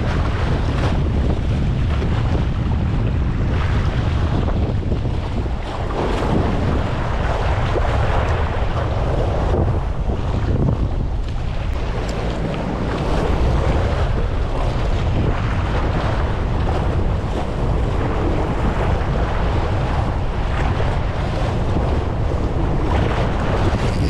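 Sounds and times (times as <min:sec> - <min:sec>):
waves splashing against rocks: 0:00.0 - 0:24.0
wind buffeting microphone: 0:00.0 - 0:24.0.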